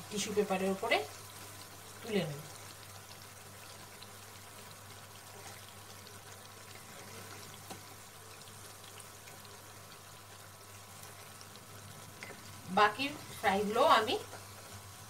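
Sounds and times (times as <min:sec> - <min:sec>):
oil sizzling while deep-frying: 0:00.0 - 0:15.0.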